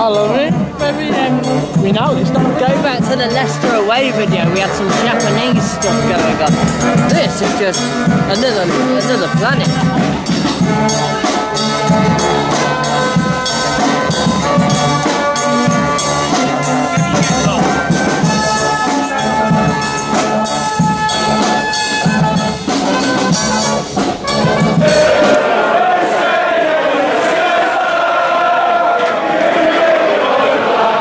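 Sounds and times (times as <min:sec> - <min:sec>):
football fans chanting: 0:00.0 - 0:20.4, 0:24.3 - 0:31.0
brass band playing: 0:00.0 - 0:31.0
snare and bass drums: 0:00.2 - 0:25.4.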